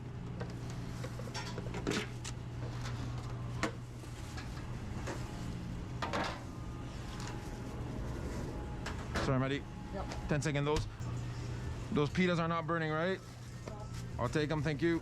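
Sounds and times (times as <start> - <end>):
equipment hum: 0.0 - 15.0.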